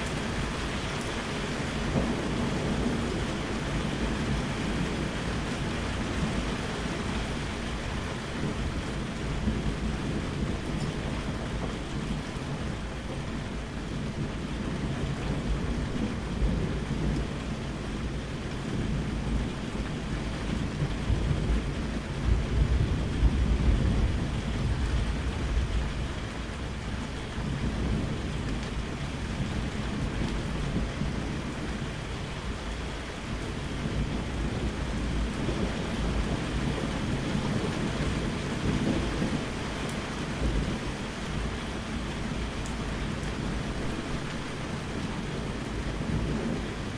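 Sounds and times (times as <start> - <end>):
rolling thunder: 0.0 - 46.9
steady rain: 0.0 - 46.9.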